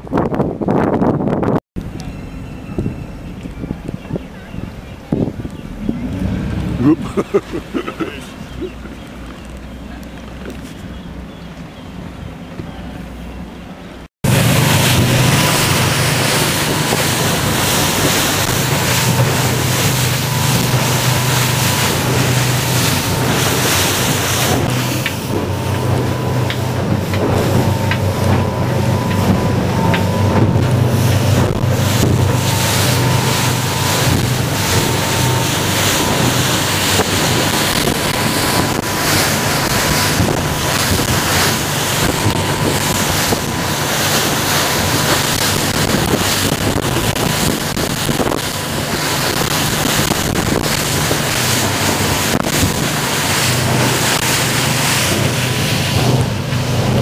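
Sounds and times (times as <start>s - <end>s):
wind noise on microphone: 0.0s - 7.2s, 14.2s - 57.0s
water rushing along hull: 0.0s - 57.0s
motorboat engine drone: 1.4s - 57.0s.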